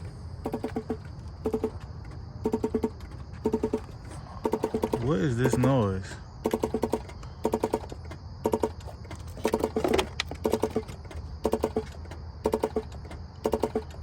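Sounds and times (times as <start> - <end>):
rapid electrical clicks: 0.0 - 14.0.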